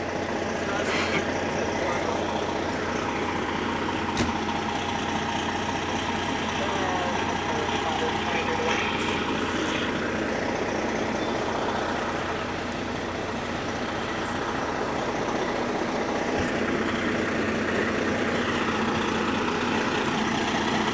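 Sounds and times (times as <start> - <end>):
fire engine idling: 0.0 - 20.9.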